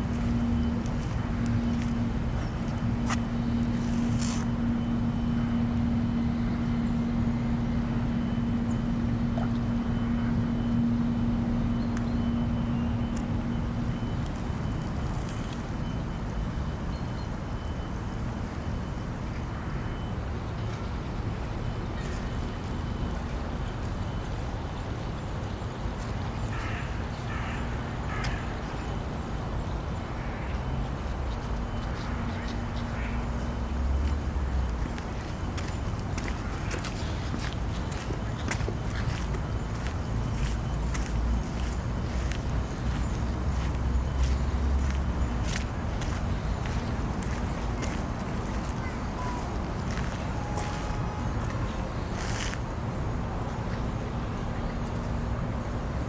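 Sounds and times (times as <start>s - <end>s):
low outdoor rumble: 0.0s - 28.0s, 28.6s - 56.0s
low mechanical hum: 0.0s - 56.0s.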